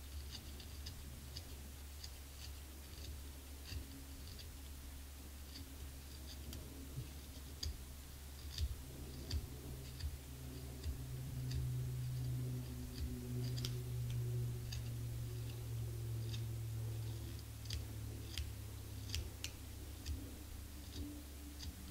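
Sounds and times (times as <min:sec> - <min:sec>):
knife clicking and scraping reed: 0:00.0 - 0:21.9
low steady hum: 0:00.0 - 0:21.9.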